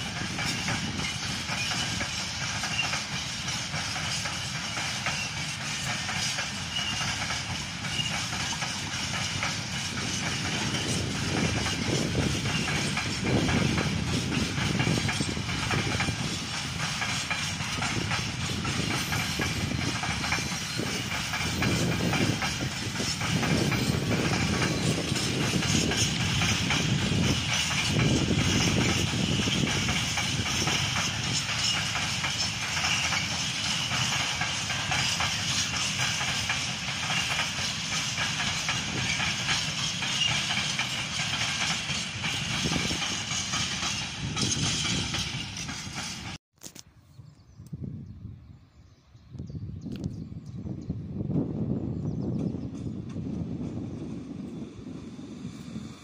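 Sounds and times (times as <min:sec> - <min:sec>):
train wheels on rails: 0:00.0 - 0:46.8, 0:49.9 - 0:56.0.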